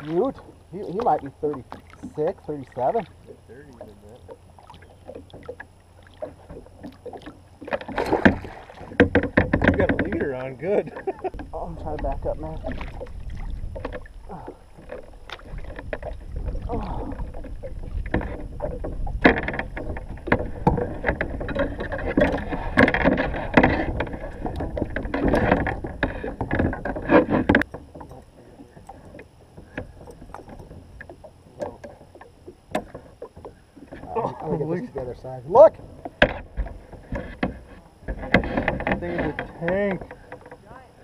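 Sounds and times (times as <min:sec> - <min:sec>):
paddle splashing in water: 0:00.0 - 0:34.4
paddle knocking against kayak: 0:00.0 - 0:40.9.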